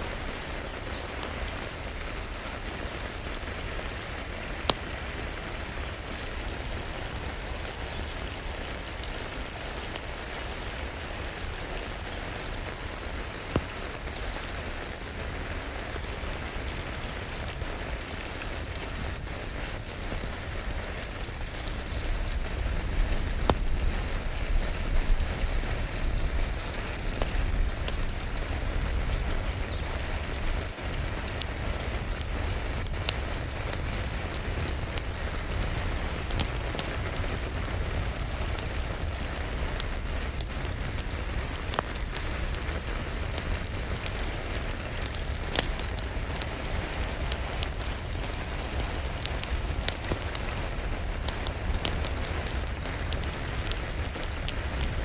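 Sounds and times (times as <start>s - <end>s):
steady rain: 0.0s - 55.0s
wood fire crackles: 0.0s - 55.0s.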